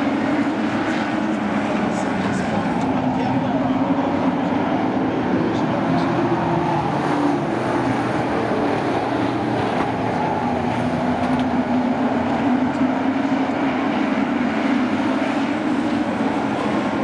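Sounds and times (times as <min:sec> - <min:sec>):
race truck engines running: 0:00.0 - 0:17.0.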